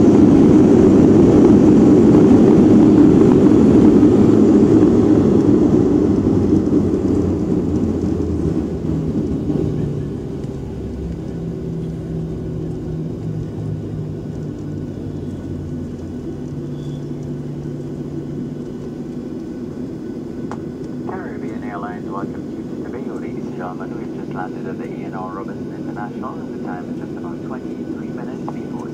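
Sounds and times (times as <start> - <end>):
jet engine and runway rumble: 0.0 - 28.9
faint hum: 3.6 - 28.9.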